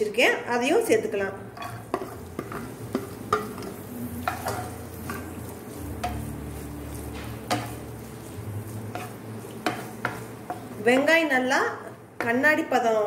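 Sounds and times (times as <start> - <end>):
light oil sizzle: 0.0 - 13.0
spatula scraping and tapping pan: 1.6 - 12.4.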